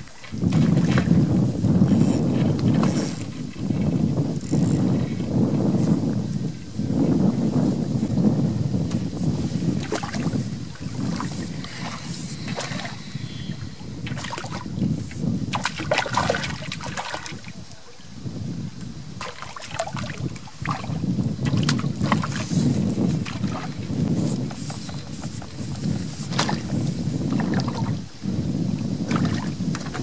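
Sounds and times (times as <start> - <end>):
water lapping at bank: 0.0 - 30.0
wind rumbling on microphone: 0.0 - 30.0.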